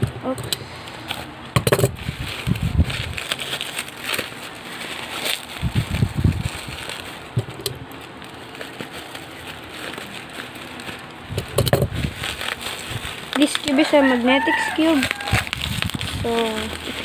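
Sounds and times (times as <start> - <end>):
plastic wrap crinkling: 0.7 - 17.0.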